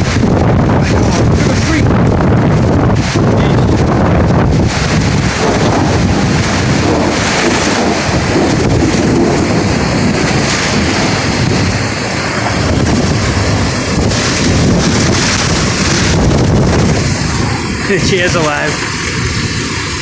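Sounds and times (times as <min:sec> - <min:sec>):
heavy rain and hail: 0:00.0 - 0:20.0
wind buffeting microphone: 0:00.0 - 0:20.0.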